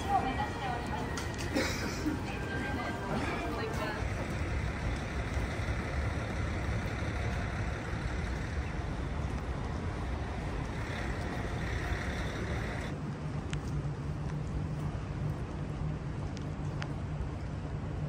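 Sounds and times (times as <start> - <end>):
city hiss: 0.0 - 18.0.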